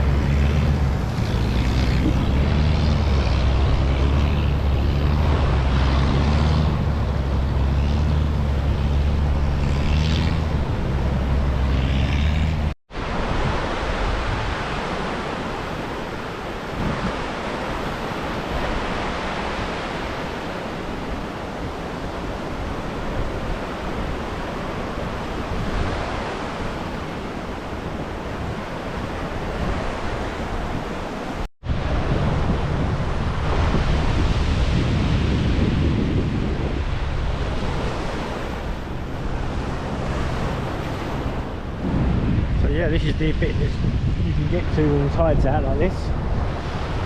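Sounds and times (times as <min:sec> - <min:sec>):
sea waves washing in: 0:00.0 - 0:47.0
wind buffeting microphone: 0:00.0 - 0:47.0.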